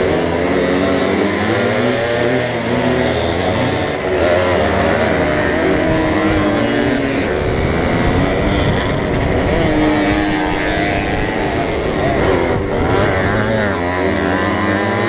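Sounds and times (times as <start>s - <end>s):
moped engine revving: 0.0s - 15.0s.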